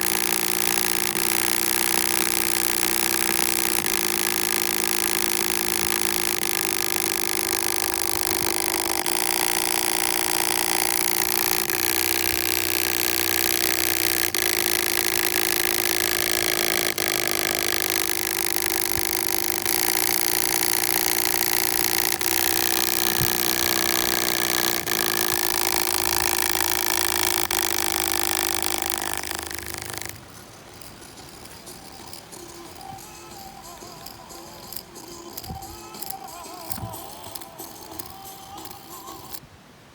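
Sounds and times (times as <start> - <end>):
loud mechanical running noise: 0.0 - 39.4.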